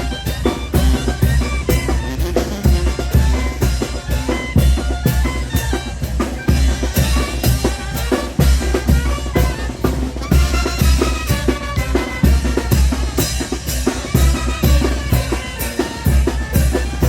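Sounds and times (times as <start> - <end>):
brass band drums and cymbals beat: 0.0 - 17.0
horn melody: 0.0 - 17.0.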